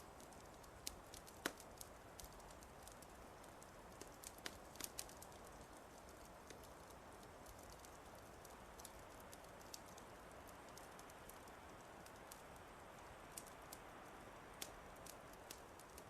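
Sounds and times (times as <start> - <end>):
wood fire crackling faintly: 0.0 - 16.0.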